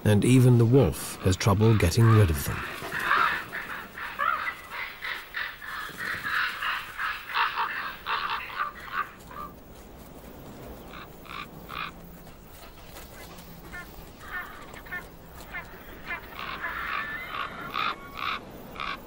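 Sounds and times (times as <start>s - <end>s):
ravens croaking: 0.0s - 19.0s.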